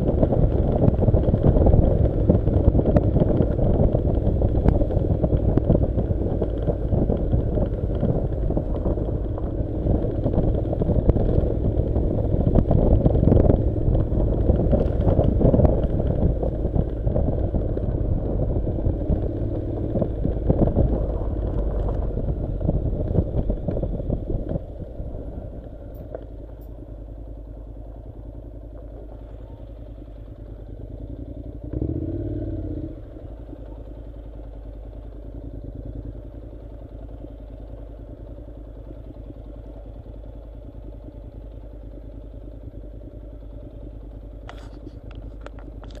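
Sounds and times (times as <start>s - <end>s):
motorcycle engine running: 0.0s - 46.0s
road noise on gravel: 0.0s - 46.0s.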